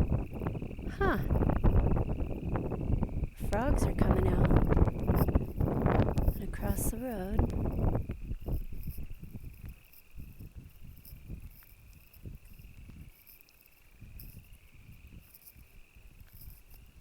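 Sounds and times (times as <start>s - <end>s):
frogs trilling: 0.0s - 17.0s
wind rumbling on microphone: 0.0s - 17.0s.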